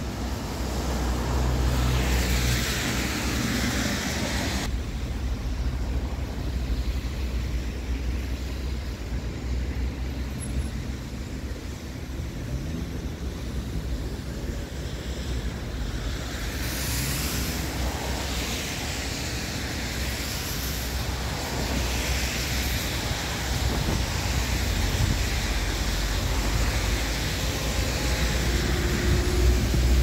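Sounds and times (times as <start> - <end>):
loud hiss: 0.0 - 30.0
road traffic: 0.0 - 30.0
wind rumble on microphone: 0.0 - 30.0.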